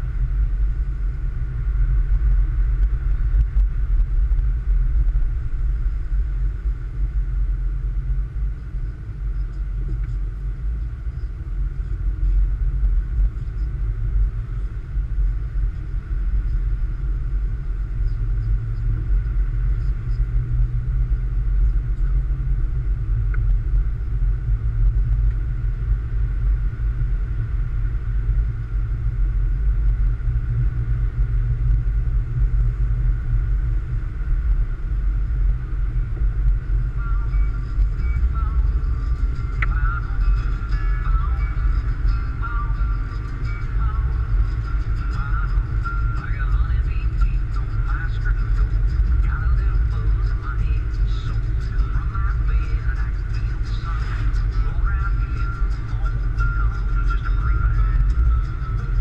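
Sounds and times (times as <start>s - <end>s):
car engine and tyres rumbling: 0.0s - 59.0s
faint high hum: 0.0s - 59.0s.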